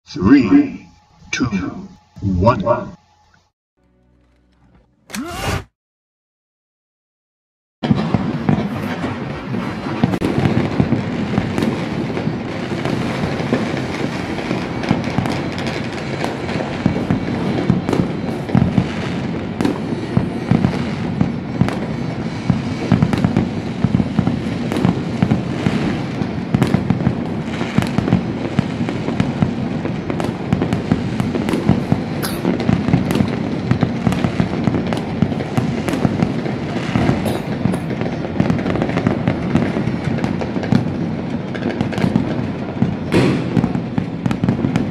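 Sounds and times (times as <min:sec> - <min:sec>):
fireworks crackling and banging: 0:07.8 - 0:44.9.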